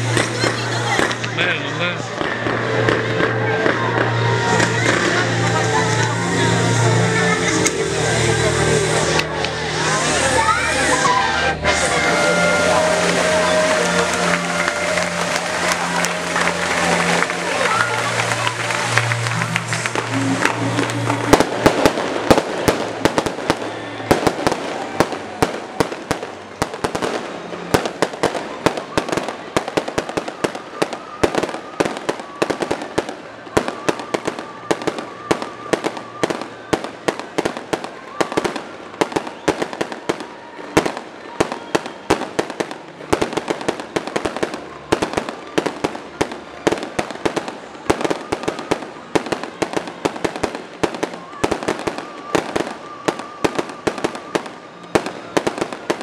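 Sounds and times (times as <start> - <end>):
fireworks bangs and crackling: 0.0 - 56.0
music: 0.0 - 56.0.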